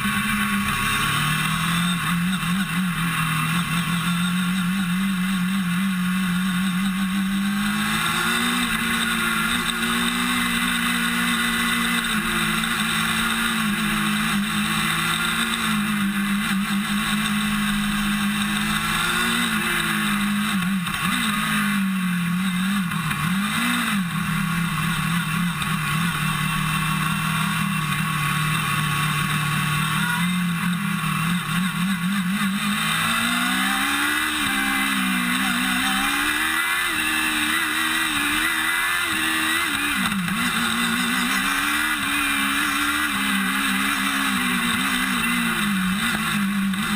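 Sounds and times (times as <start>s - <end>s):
race car engine running hard: 0.0s - 46.9s.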